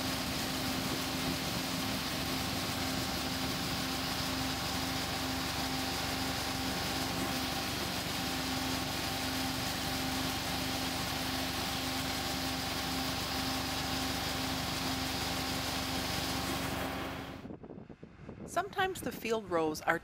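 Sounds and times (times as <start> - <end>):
combine harvester running: 0.0 - 17.5.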